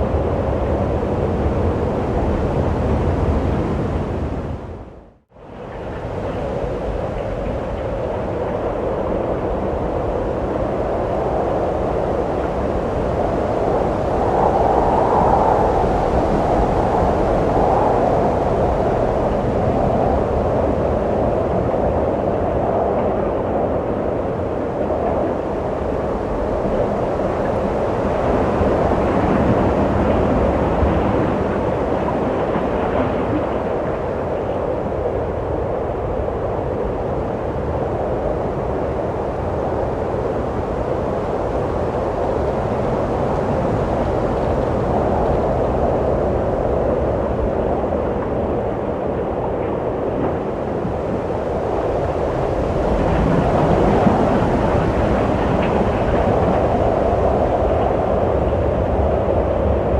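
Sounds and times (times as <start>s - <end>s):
wind blowing: 0.0s - 59.9s.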